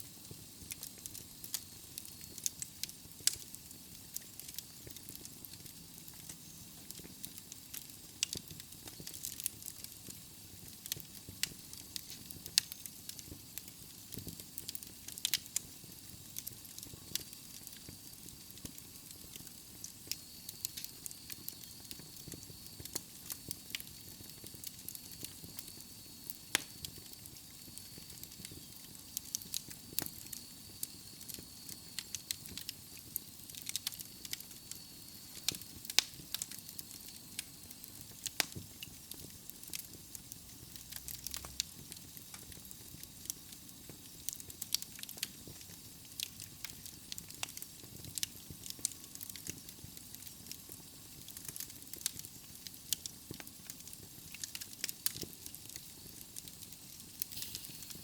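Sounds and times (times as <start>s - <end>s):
fire popping: 0.0s - 58.0s
logs crackling in a fireplace: 0.0s - 58.0s
soft steady hiss: 0.0s - 58.0s.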